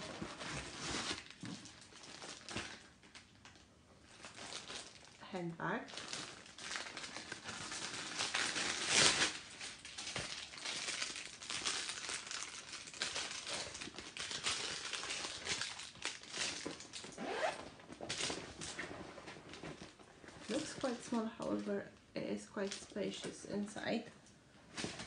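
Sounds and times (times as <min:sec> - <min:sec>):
plastic wrapping crinkling: 0:00.0 - 0:25.0.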